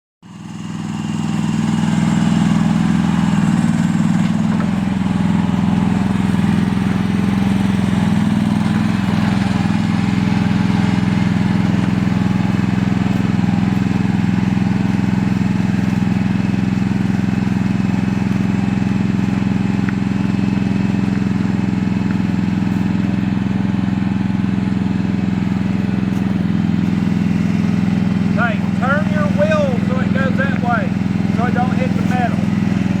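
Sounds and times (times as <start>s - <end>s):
excavator diesel engine humming: 0.7s - 33.0s.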